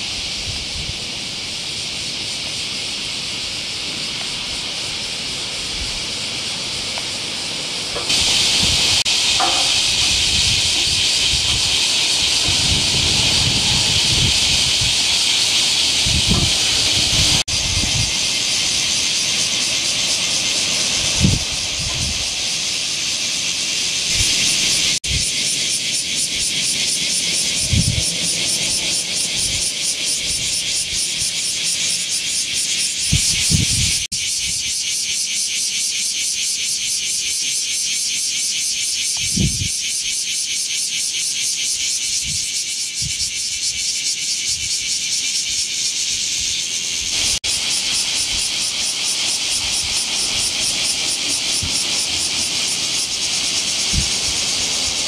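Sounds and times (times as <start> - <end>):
steady high-pitched hiss: 0.0 - 55.0.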